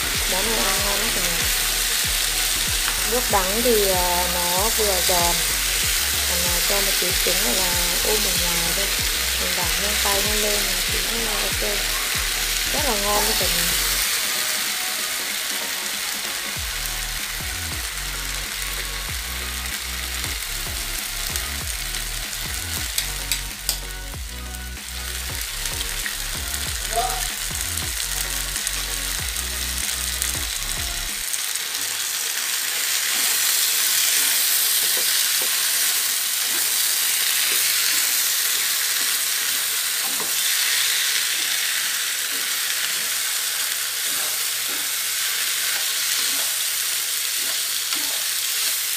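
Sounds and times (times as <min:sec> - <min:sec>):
bitter melon sizzling in frying pan: 0:00.0 - 0:48.9.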